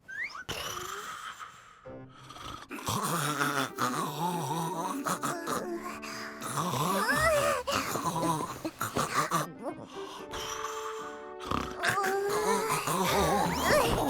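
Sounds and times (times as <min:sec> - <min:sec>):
cartoon snoring with wavering tones: 0:00.1 - 0:14.0.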